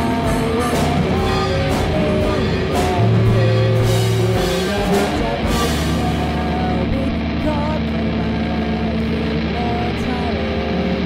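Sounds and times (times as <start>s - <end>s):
music with regular beat: 0.0s - 9.6s.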